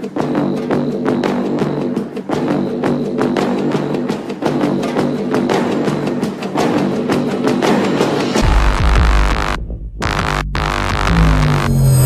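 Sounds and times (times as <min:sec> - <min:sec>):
music with driving percussive beat: 0:00.0 - 0:12.0.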